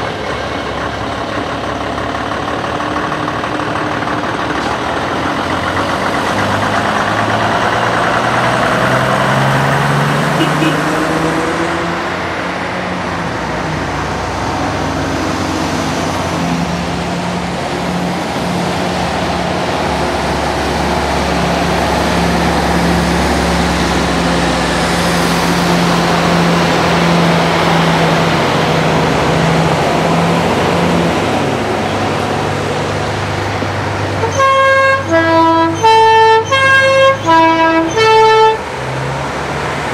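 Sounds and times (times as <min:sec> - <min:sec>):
bus engines running: 0:00.0 - 0:39.9.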